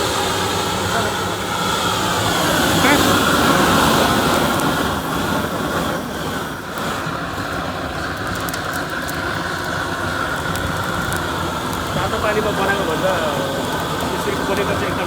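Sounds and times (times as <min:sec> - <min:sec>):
gas flame roaring: 0:00.0 - 0:15.0
faint crackles: 0:00.7 - 0:15.0.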